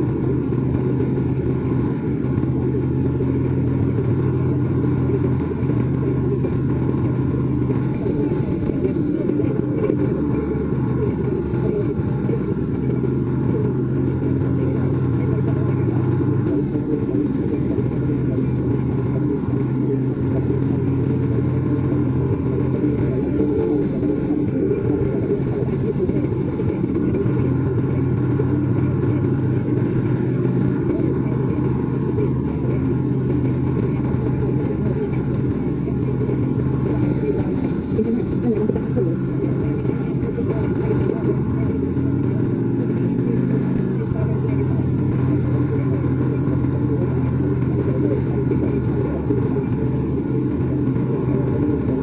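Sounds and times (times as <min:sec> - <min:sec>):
motorcycle engine cruising: 0:00.0 - 0:52.0.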